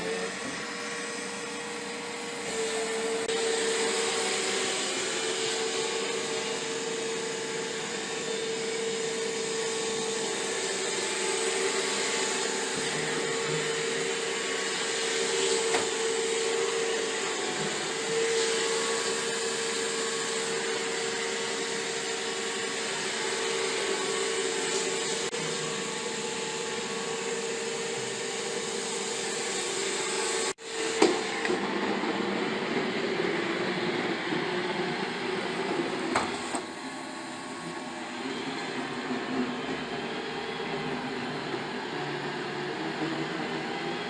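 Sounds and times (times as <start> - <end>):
robot vacuum running: 0.0 - 44.0.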